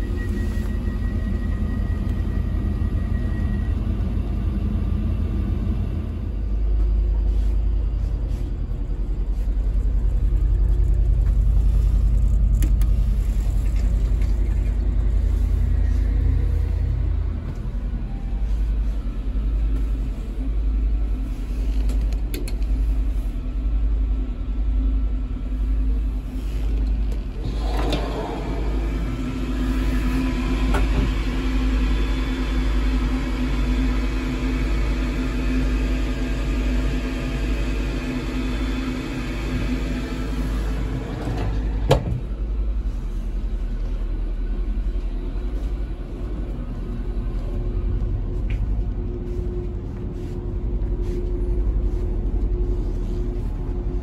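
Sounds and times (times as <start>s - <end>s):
diesel train engine idling: 0.0s - 54.0s.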